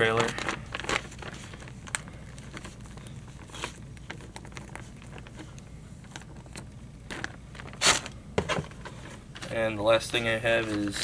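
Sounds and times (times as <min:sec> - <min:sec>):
plastic bags crinkling: 0:00.0 - 0:09.8.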